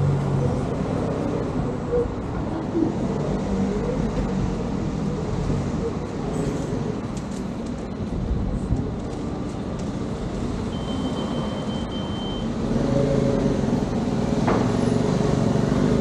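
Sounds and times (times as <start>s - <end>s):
vehicle road noise: 0.0s - 16.0s.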